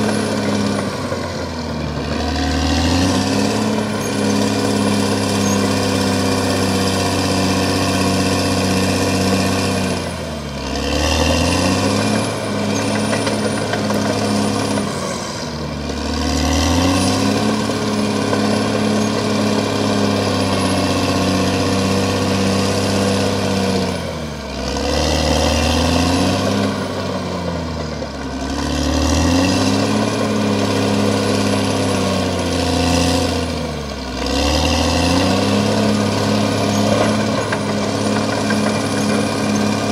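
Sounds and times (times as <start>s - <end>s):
bulldozer diesel engine revving: 0.0s - 39.9s.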